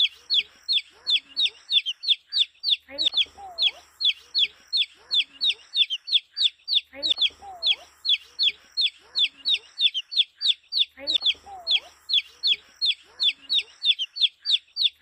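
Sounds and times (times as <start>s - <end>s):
baby chicks peeping: 0.0s - 15.0s
softer lower chick calls: 0.0s - 15.0s.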